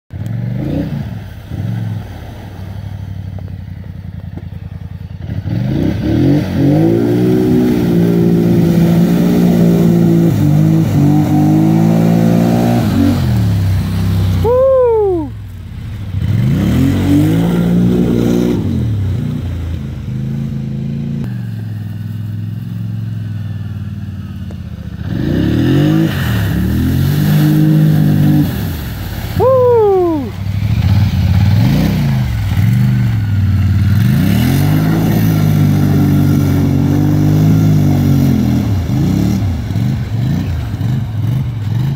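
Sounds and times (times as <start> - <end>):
atv engine revving: 0.1 - 41.9.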